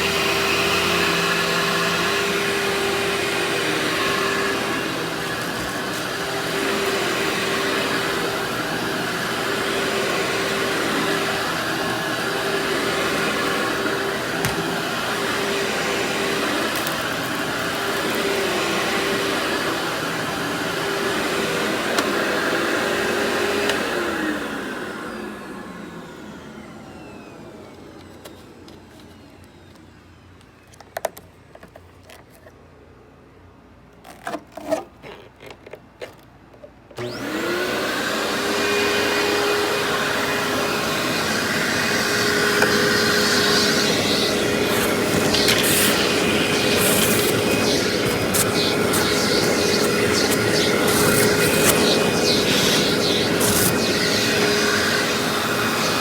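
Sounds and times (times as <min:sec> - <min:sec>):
vacuum cleaner running: 0:00.0 - 0:30.7, 0:37.0 - 0:56.0.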